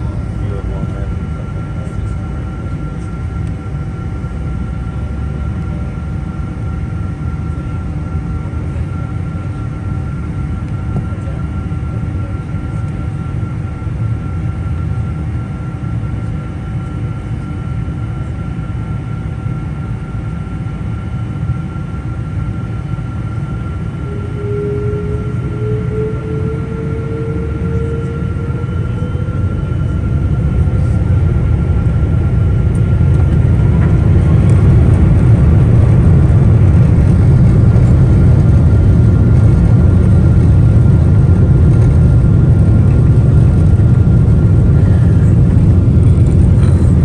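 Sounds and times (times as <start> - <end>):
jet engines idling: 0.0 - 47.0.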